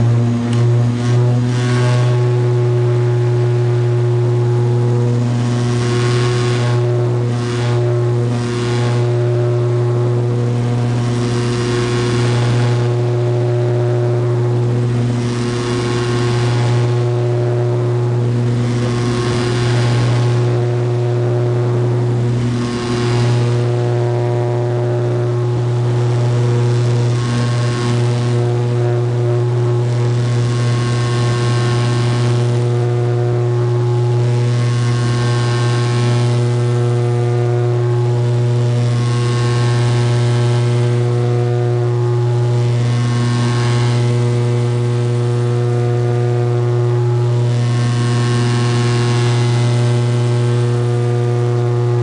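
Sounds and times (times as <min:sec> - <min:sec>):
propeller drone with steady tones: 0:00.0 - 0:52.0.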